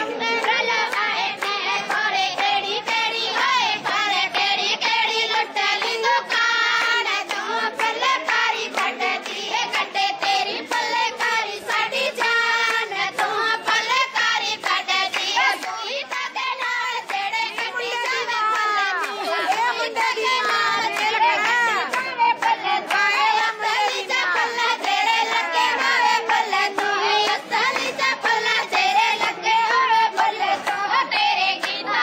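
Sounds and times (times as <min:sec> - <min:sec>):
group hand clapping: 0:00.0 - 0:32.0.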